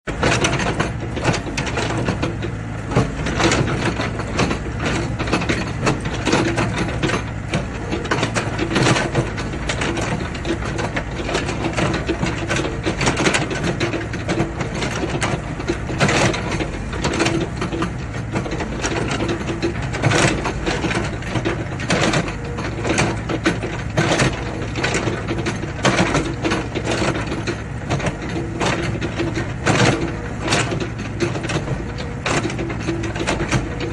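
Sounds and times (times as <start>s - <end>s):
excavator diesel engine hum: 0.0s - 33.9s
metal clanks and knocks: 0.1s - 33.9s.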